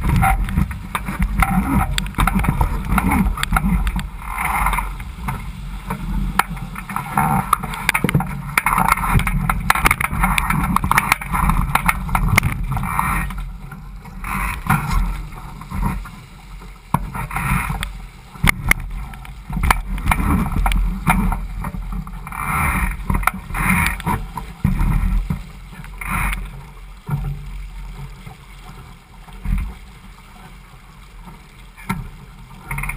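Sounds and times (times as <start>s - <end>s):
wind rumble on microphone: 0.0s - 30.1s
water rushing along hull: 0.0s - 32.9s.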